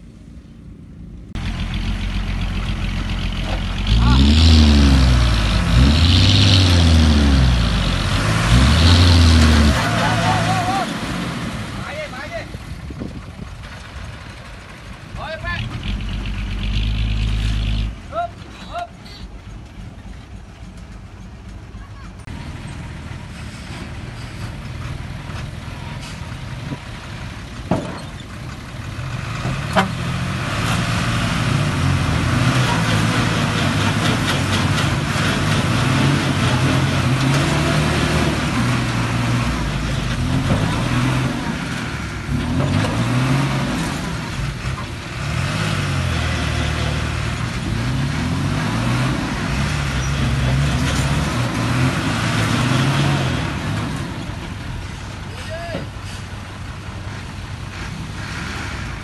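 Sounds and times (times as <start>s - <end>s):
diesel truck engines under load: 0.0s - 59.0s.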